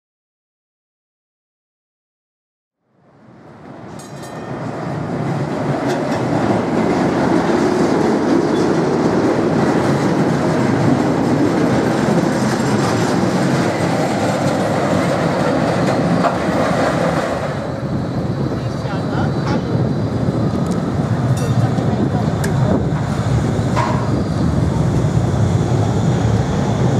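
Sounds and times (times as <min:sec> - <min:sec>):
tram rumbling on rails: 0:03.0 - 0:26.9.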